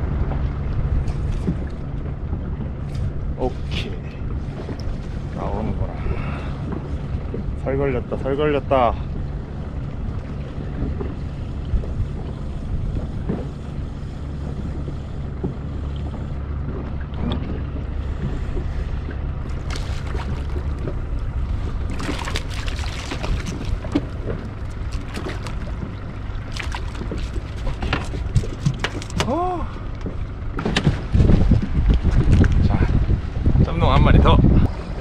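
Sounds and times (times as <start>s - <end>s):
boat motor hum: 0.0s - 35.0s
water noise: 0.0s - 35.0s
wind: 0.0s - 35.0s.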